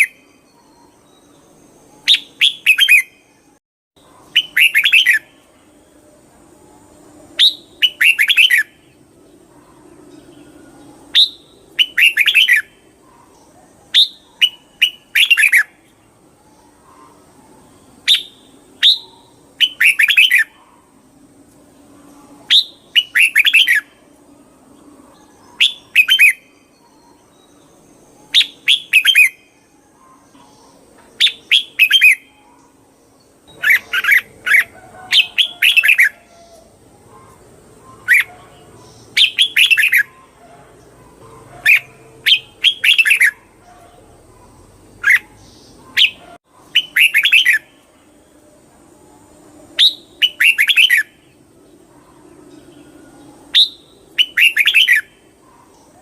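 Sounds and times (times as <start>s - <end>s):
bird singing chirping phrases: 0.0s - 56.0s.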